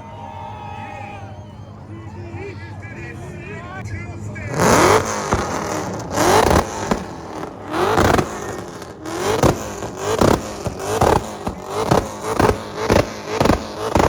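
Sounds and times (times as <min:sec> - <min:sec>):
car engine revving: 0:01.9 - 0:14.0.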